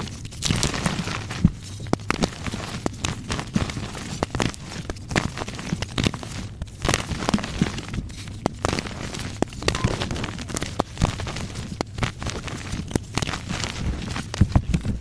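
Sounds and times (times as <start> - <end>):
chalk crunching: 0.0 - 15.0.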